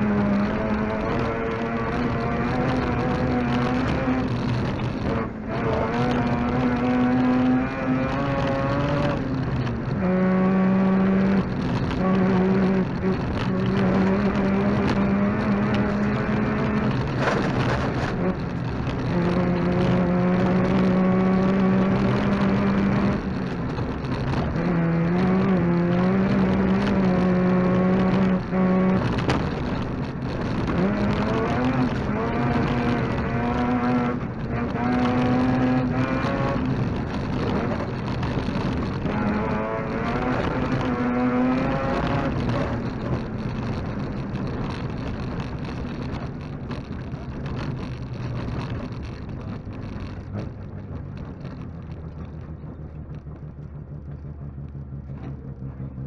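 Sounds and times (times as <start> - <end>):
gravel rumbling under tyres: 0.0 - 56.0
rally car engine revving: 0.0 - 56.0.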